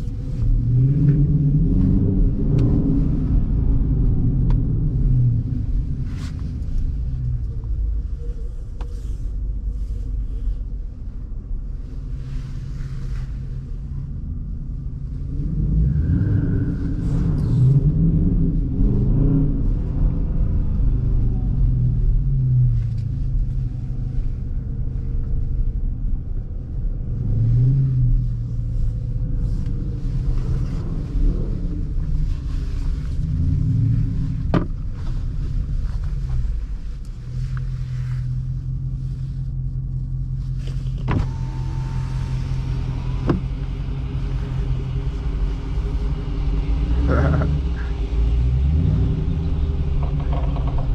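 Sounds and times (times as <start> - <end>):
car engine from inside cabin: 0.0 - 50.9.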